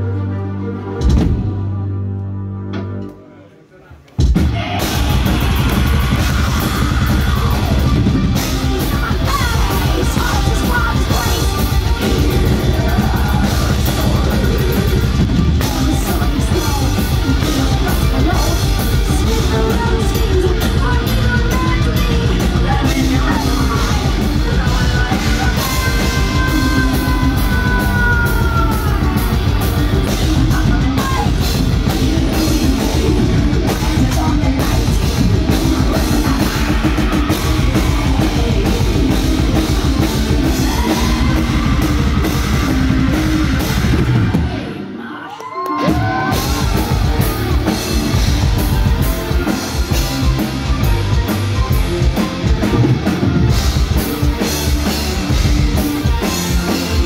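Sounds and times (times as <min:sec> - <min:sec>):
distorted electric guitars: 0:04.1 - 0:57.0
rapid drumming: 0:04.2 - 0:44.8, 0:45.8 - 0:57.0
harsh yelled vocals: 0:04.2 - 0:50.8.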